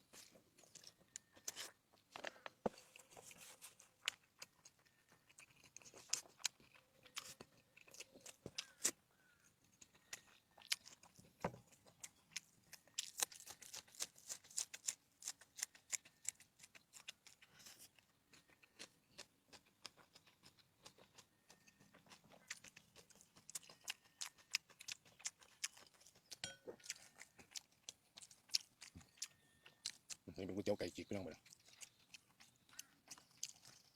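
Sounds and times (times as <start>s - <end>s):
person chewing and eating: 0.0s - 33.9s.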